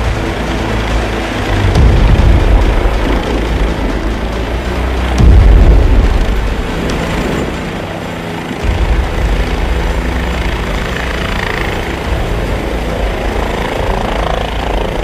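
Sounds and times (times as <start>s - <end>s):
helicopter hovering: 0.0s - 15.0s.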